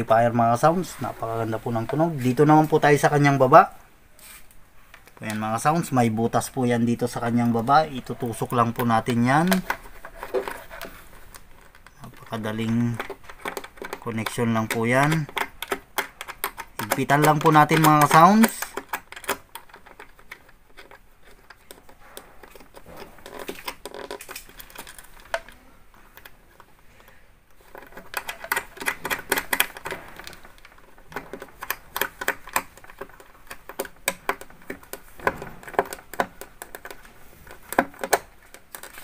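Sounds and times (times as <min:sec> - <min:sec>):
plastic knobs clicking and rattling: 0:00.0 - 0:03.5, 0:04.9 - 0:39.0.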